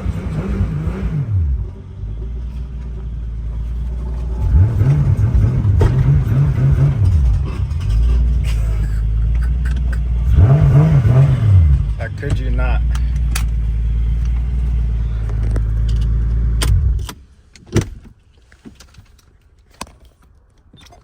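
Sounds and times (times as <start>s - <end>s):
car engine and exhaust revving: 0.0s - 17.3s.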